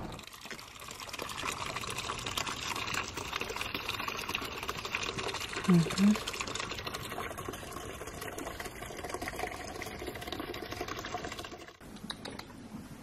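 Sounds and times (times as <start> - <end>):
water stream into plastic bucket: 0.0 - 11.8.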